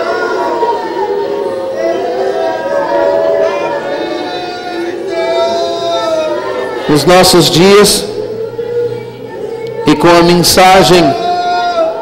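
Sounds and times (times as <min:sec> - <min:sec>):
soft worship music: 0:00.0 - 0:12.0.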